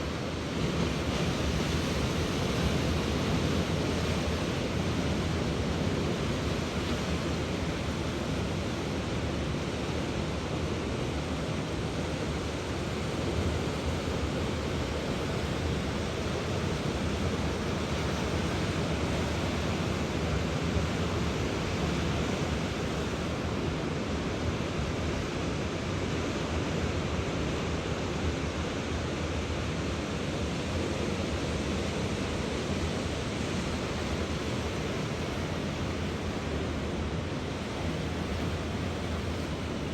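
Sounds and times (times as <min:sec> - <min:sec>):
waves breaking and washing: 0:00.0 - 0:39.9.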